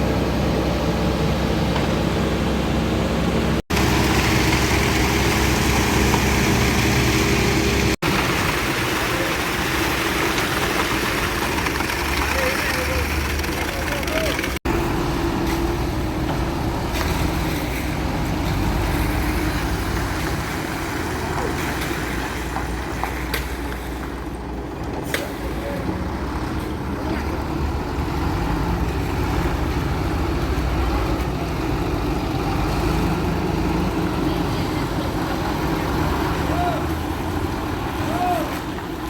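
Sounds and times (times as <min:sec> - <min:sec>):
diesel truck engine rumbling: 0:00.0 - 0:39.0.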